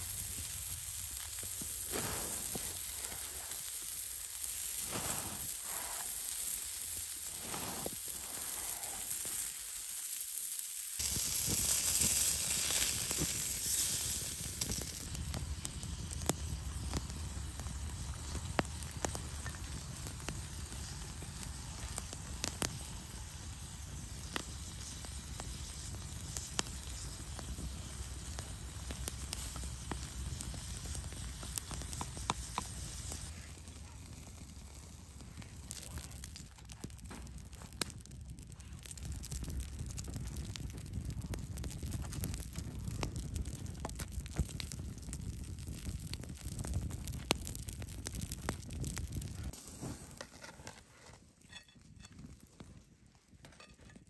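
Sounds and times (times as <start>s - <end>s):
sausage sizzling on a griddle: 0.0s - 50.7s
burning wood popping: 0.0s - 54.0s.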